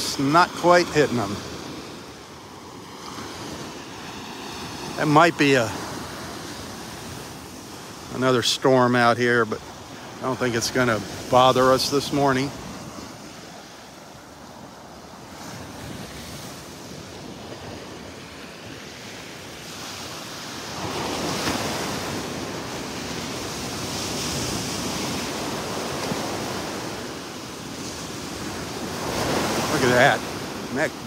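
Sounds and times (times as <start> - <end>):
surf washing onto sandy beach: 0.0 - 31.0.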